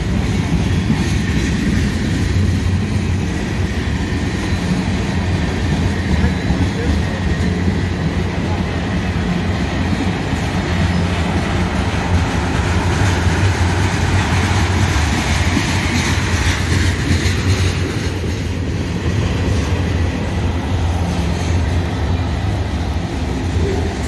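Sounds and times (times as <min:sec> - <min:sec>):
train rumbling on track: 0:00.0 - 0:24.0
wheels clattering over rails: 0:00.0 - 0:24.0.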